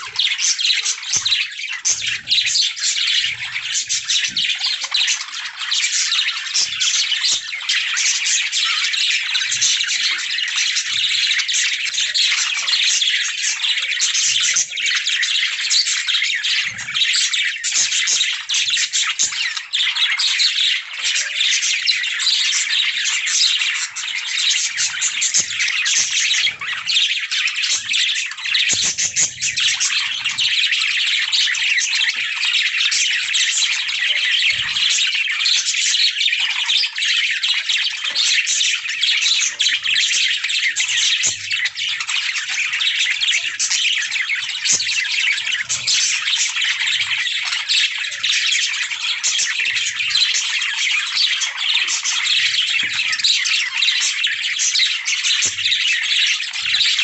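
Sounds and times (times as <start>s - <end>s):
budgerigars chirping and warbling: 0.0s - 57.0s.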